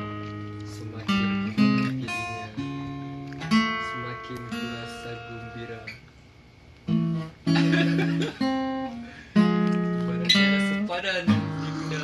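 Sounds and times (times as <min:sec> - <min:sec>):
acoustic guitar chords strummed: 0:00.0 - 0:06.0, 0:06.8 - 0:12.0.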